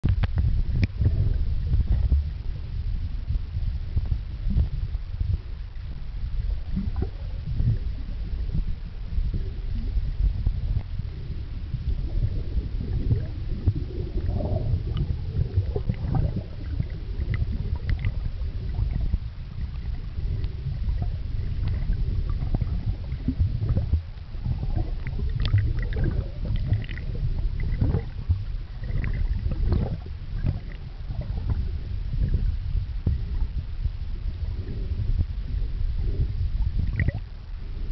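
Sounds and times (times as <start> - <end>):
small clicks and crackles: 0.0 - 2.7, 3.5 - 35.4
muffled underwater rumble: 0.0 - 37.9.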